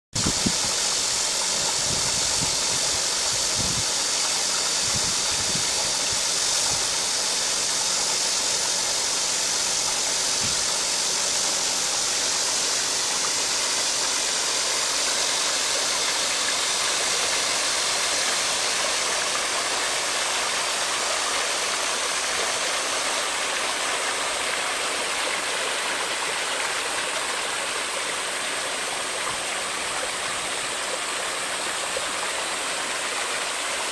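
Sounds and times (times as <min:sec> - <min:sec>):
aerator churning water: 0:00.2 - 0:33.9.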